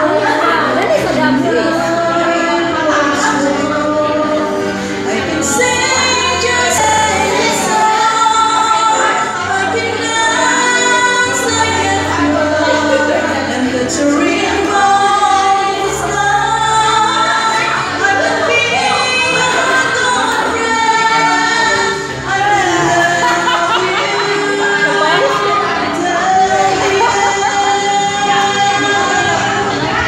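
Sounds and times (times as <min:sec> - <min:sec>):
music backing track: 0:00.0 - 0:30.0
woman singing karaoke: 0:00.0 - 0:30.0.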